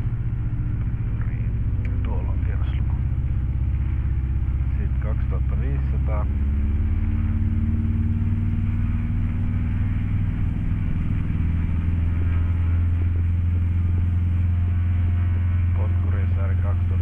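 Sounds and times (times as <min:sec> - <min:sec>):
light aircraft engine droning: 0:00.0 - 0:17.0.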